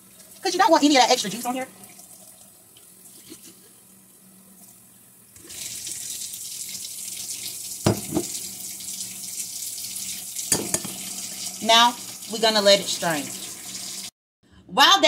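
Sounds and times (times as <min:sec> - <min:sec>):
tap water running: 0:00.0 - 0:14.2.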